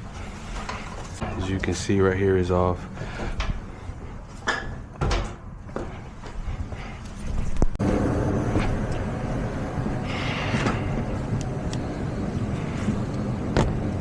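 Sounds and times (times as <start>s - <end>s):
blower hum with air moving: 0.0s - 14.0s.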